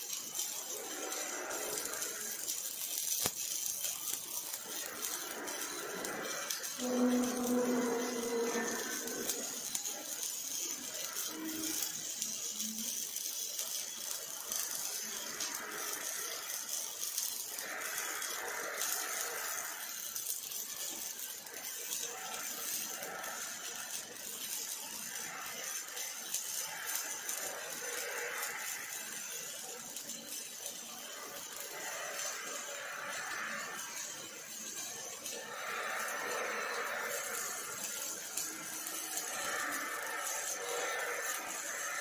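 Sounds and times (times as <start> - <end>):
welding arc crackling: 0.0 - 42.0.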